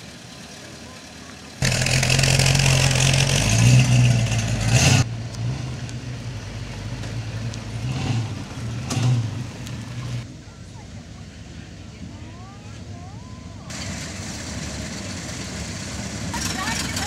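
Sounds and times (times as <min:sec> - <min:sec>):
steady vehicle running sound: 0:00.0 - 0:17.0.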